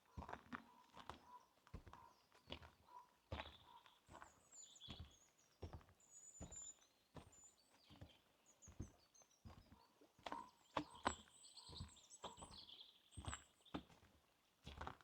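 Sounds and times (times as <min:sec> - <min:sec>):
faint birds chirping: 0:00.0 - 0:14.6
footsteps crunching on forest path: 0:00.1 - 0:15.0.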